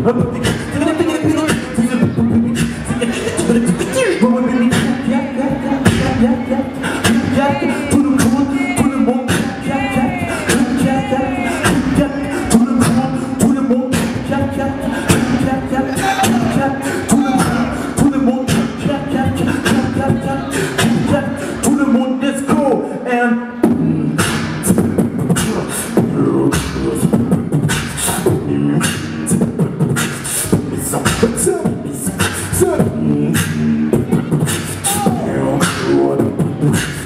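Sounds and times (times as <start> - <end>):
beatboxing into a microphone: 0.0 - 37.0.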